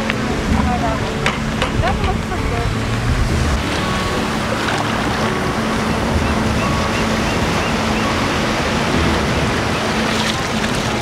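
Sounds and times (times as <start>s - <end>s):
ocean waves breaking: 0.0s - 11.0s.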